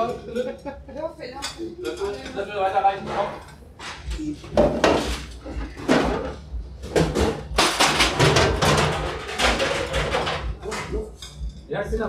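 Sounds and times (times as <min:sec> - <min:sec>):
plates and trays clanking: 0:01.4 - 0:11.4.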